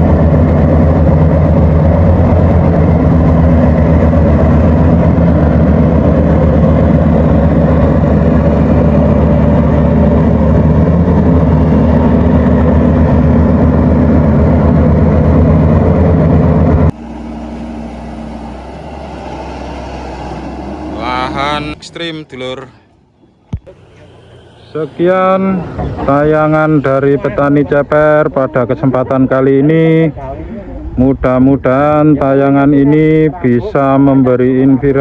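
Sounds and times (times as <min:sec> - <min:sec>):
loud diesel engine running: 0:00.0 - 0:35.0
quiet engine hum: 0:00.0 - 0:35.0.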